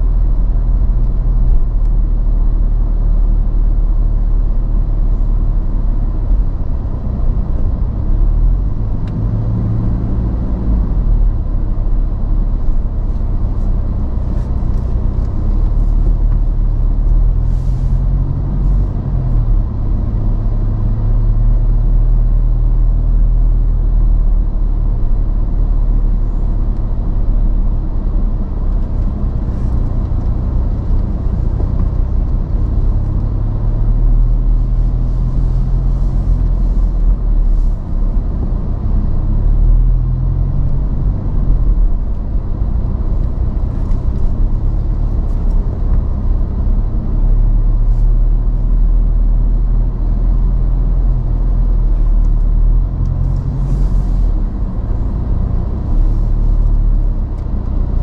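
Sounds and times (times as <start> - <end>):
car engine driving slowly: 0.0 - 58.0
road rumble: 0.0 - 58.0.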